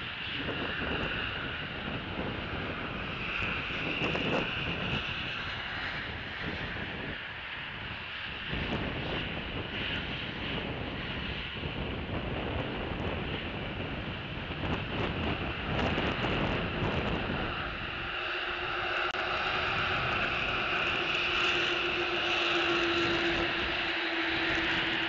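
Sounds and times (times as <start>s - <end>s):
wind gusting on microphone: 0.0s - 25.0s.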